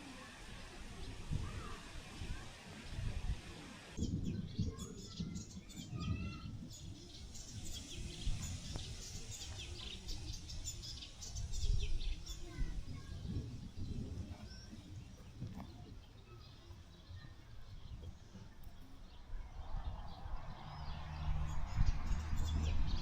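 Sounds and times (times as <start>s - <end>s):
small birds chirping: 0.0s - 23.0s
wind buffeting microphone: 0.0s - 23.0s.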